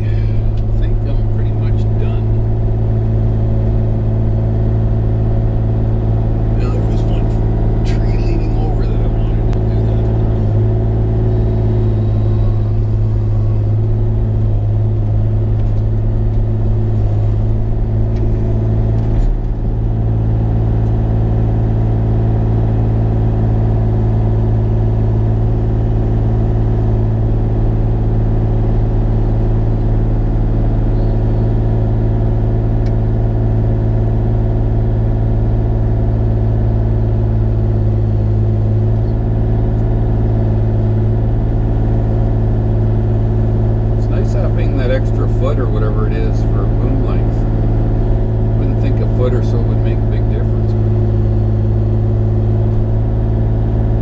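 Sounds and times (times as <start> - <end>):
mini excavator diesel engine: 0.0 - 54.0.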